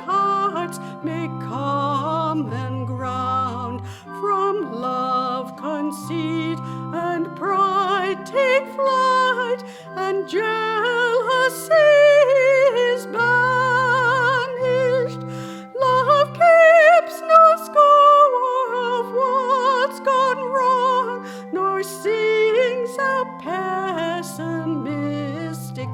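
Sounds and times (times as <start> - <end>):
sustained keyboard chords: 0.0 - 25.9
woman singing a hymn with vibrato: 0.0 - 25.9.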